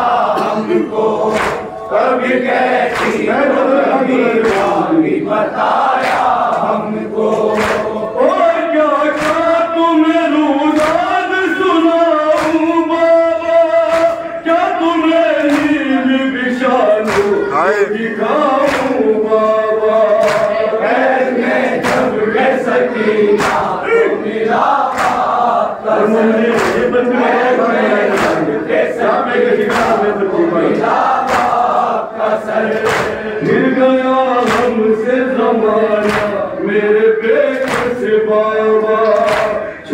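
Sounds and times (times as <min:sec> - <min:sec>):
men chanting a mourning lament: 0:00.0 - 0:39.9.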